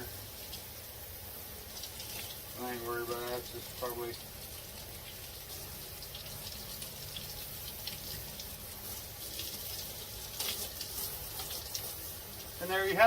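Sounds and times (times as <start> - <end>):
water splashes: 0.0 - 13.0
shower head spraying water: 1.7 - 13.0.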